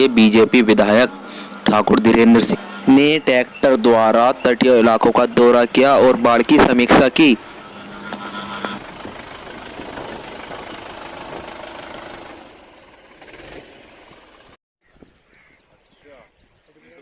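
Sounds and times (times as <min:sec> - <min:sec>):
tractor engine running: 0:00.0 - 0:14.6.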